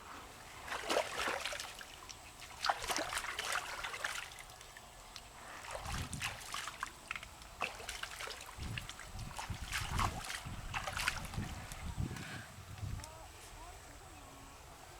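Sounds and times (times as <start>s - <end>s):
water trickling and splashing: 0.4s - 13.0s.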